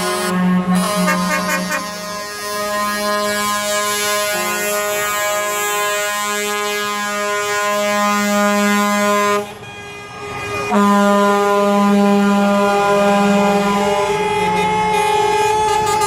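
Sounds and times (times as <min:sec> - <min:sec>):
truck air horn blast: 0:00.0 - 0:16.0.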